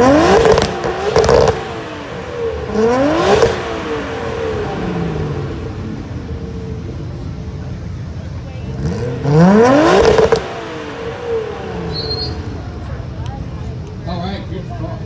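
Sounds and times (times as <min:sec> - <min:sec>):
car engine revving: 0:00.0 - 0:14.5
engine crackle: 0:00.0 - 0:14.7.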